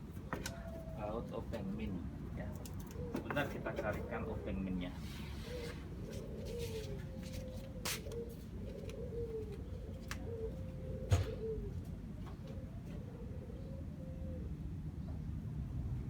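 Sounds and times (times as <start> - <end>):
dove cooing: 0.0 - 14.8.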